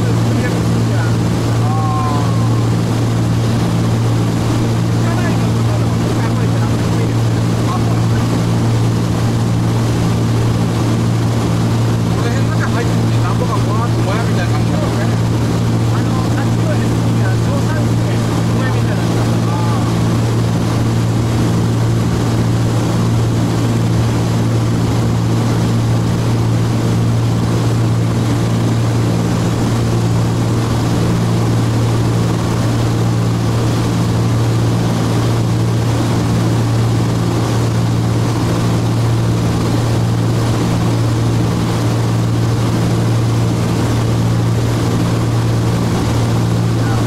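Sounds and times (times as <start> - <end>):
aircraft cabin engine drone: 0.0 - 47.0.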